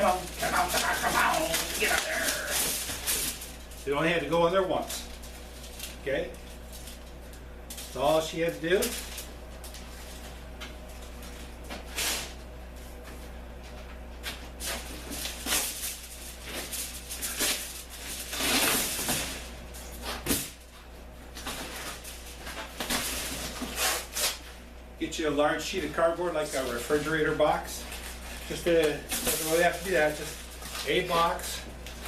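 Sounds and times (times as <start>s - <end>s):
cardboard and foil rustling: 0.0s - 24.6s, 25.6s - 32.0s
steady low hum: 0.0s - 32.0s.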